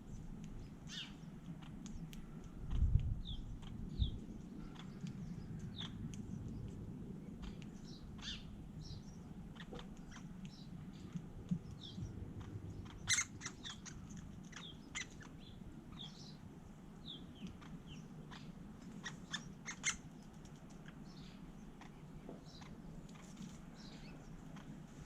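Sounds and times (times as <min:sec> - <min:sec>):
birds chirping: 0:00.0 - 0:25.0
faint low hum: 0:00.0 - 0:25.0.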